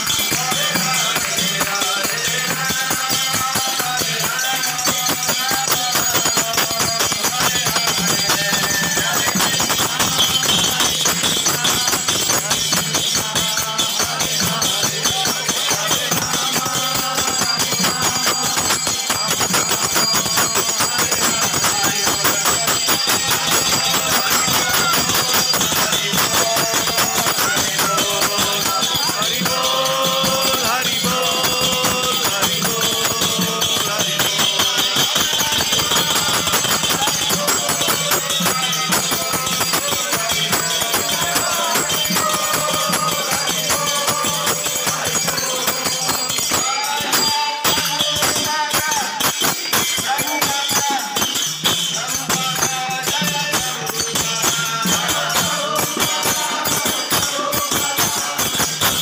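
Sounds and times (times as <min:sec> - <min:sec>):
small hand cymbals: 0:00.0 - 0:59.0
voices singing: 0:00.0 - 0:59.0.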